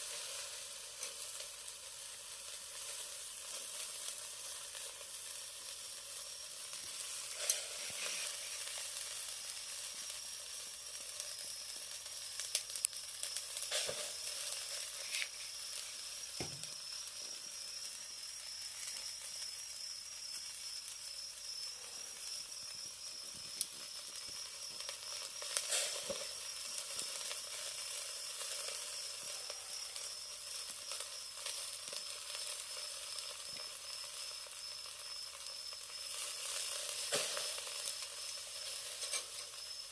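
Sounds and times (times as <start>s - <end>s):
chicken sizzling on grill: 0.0s - 39.9s.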